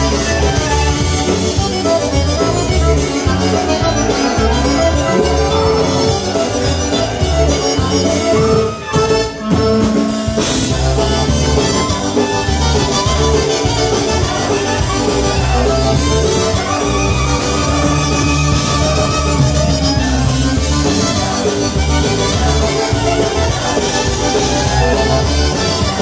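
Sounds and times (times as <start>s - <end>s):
polka band playing: 0.0s - 26.0s
trumpet melody: 0.0s - 26.0s.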